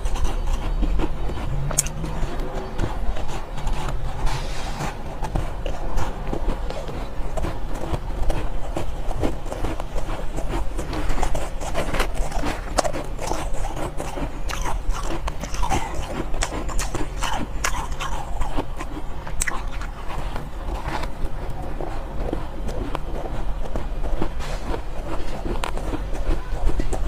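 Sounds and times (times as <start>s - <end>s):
ice being chewed: 0.0s - 27.0s.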